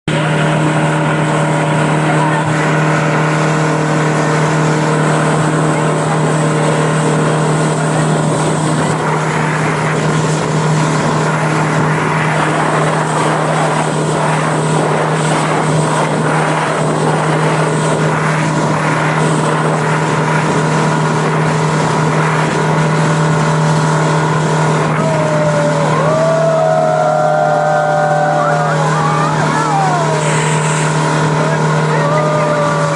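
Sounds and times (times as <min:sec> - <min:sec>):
motorboat engine running: 0:00.0 - 0:32.9
hiss of water and wind: 0:00.1 - 0:32.9.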